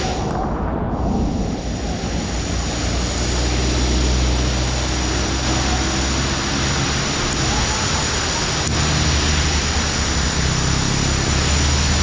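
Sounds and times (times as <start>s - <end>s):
heavy rain hissing: 0.0s - 12.0s
vehicle passing through water: 1.1s - 12.0s.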